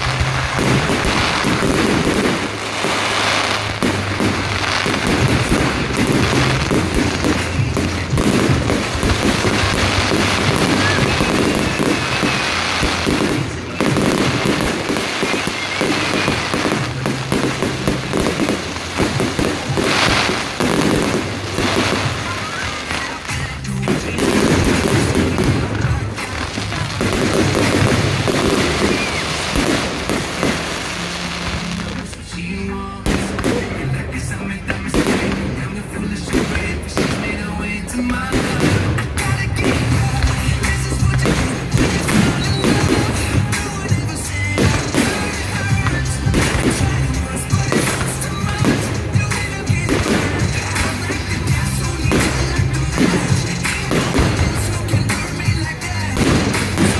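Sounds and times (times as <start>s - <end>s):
fireworks bursting and banging: 0.0s - 56.9s
music playing: 0.0s - 56.9s.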